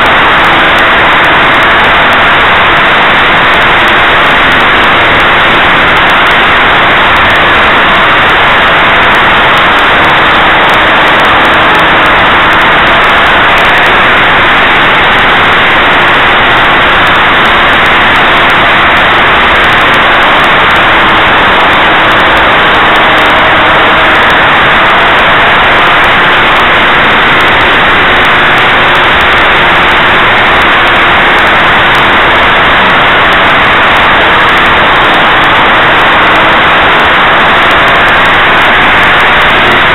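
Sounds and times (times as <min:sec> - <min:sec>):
model engine buzzing: 0:00.0 - 0:39.9.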